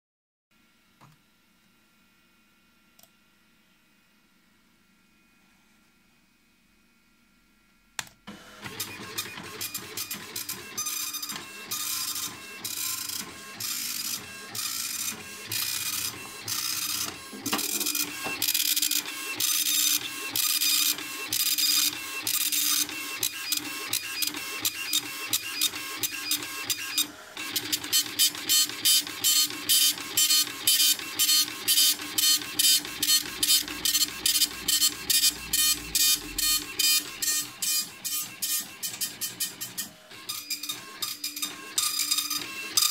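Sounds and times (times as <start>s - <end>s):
dot-matrix printer printing: 8.3s - 42.9s.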